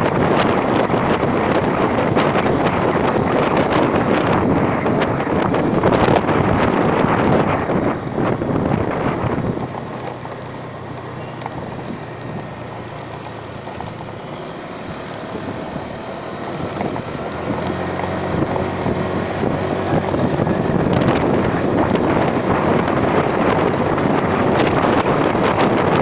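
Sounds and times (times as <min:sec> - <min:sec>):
vehicle engine running: 0:00.0 - 0:26.0
wind buffeting microphone: 0:00.0 - 0:26.0.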